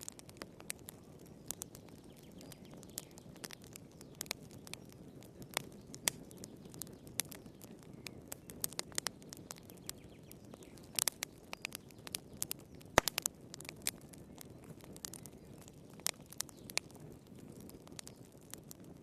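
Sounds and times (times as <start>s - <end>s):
low rumble of flame: 0.0s - 19.0s
wood fire crackling: 0.0s - 19.0s.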